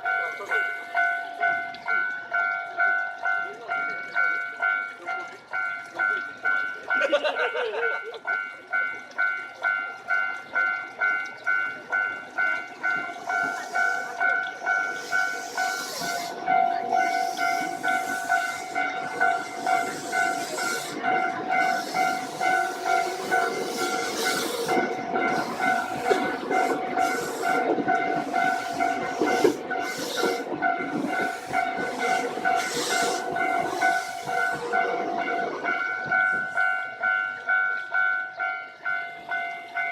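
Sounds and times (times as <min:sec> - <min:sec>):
level-crossing bell ringing: 0:00.0 - 0:39.9
train passing with clacking wheels: 0:00.0 - 0:39.9.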